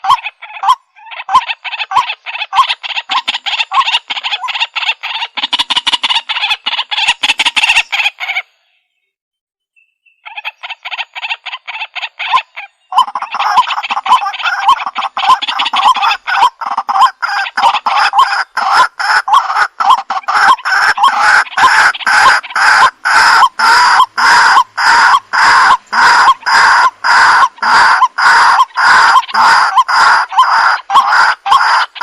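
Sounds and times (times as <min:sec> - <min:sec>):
waterhen calling: 0:00.0 - 0:08.6, 0:10.0 - 0:32.0.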